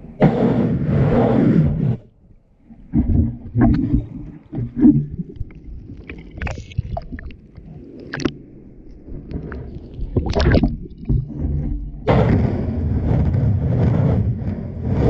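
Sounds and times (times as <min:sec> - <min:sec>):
underwater sloshing and rushing: 0:00.0 - 0:15.0.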